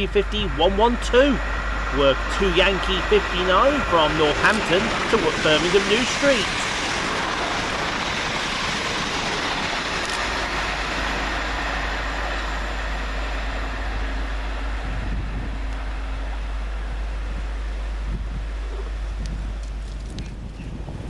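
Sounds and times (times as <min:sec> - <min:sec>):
train rushing past: 0:00.0 - 0:19.1
low rumble: 0:00.0 - 0:21.0.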